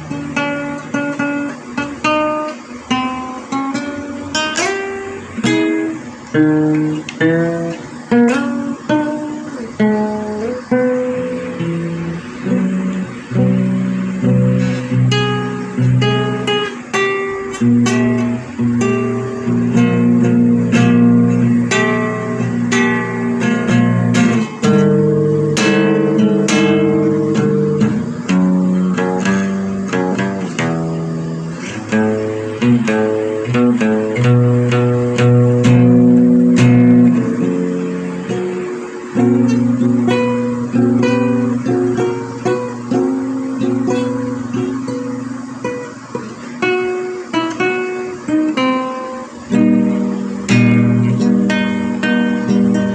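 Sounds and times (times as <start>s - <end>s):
guitar plucked notes and chords: 0.0s - 52.9s.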